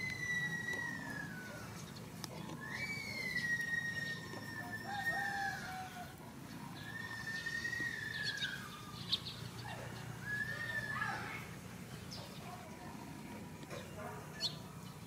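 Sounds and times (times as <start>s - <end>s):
roosters crowing: 0.0s - 13.5s.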